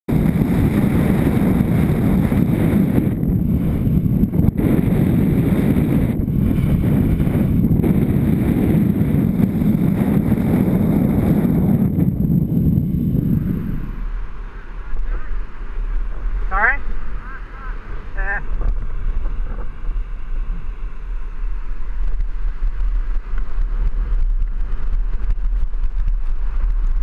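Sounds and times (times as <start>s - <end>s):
wind rushing over microphone: 0.1s - 27.0s.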